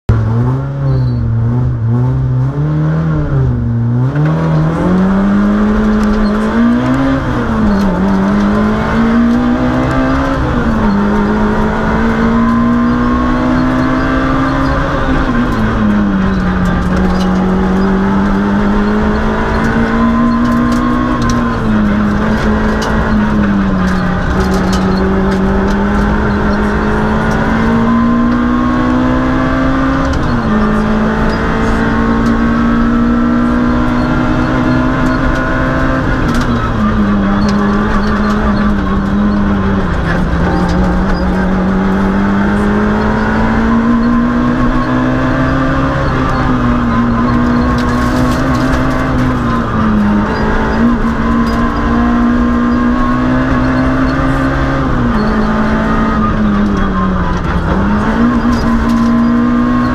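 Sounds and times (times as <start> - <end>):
rally car engine revving: 0.1 - 59.9.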